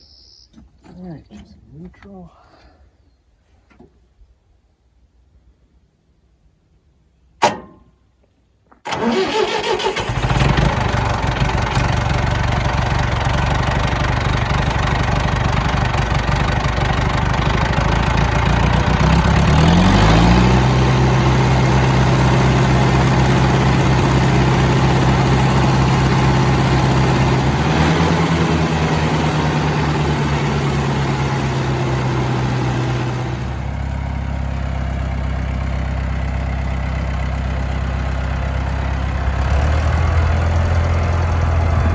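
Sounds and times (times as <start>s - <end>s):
tractor engine starting and running: 7.4s - 8.0s, 8.7s - 41.9s.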